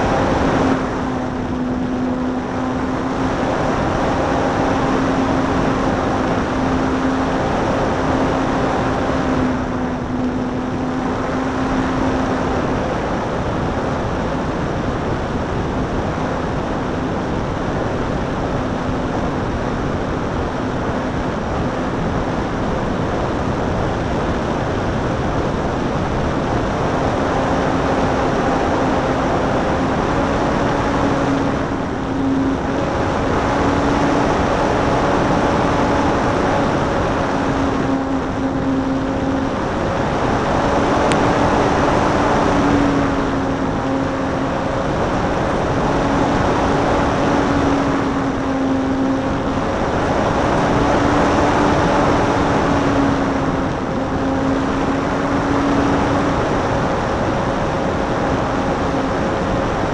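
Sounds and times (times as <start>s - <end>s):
motor and propeller humming: 0.0s - 59.9s
wind rushing over microphone: 0.0s - 59.9s.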